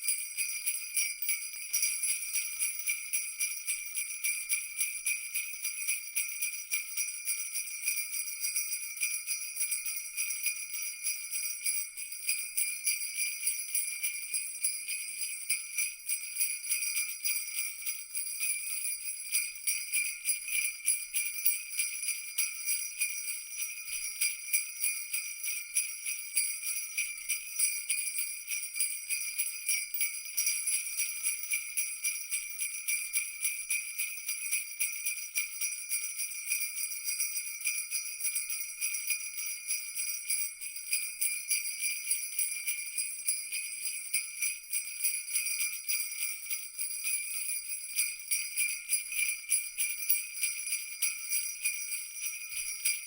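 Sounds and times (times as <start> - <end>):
jingle bells shaken: 0.0 - 53.0.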